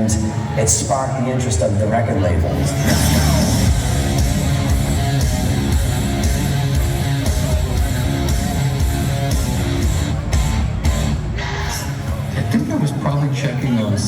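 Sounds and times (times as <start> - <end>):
heavy rock music: 0.0 - 14.0.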